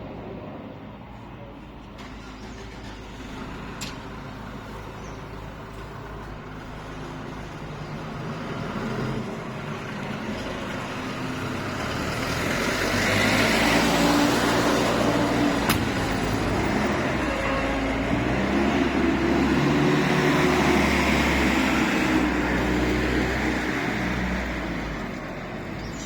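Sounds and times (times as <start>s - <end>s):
diesel tractor engine running: 0.0s - 26.0s.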